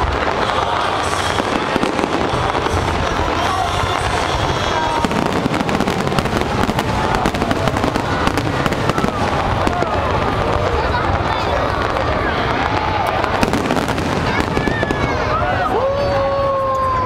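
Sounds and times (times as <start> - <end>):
faint fireworks whistles: 0.0 - 17.0
fireworks bangs and crackling: 0.0 - 17.0.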